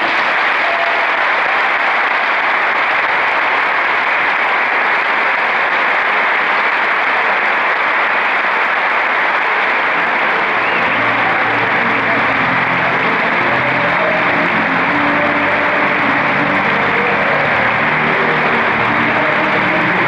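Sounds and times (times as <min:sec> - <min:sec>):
large crowd applauding: 0:00.0 - 0:20.0.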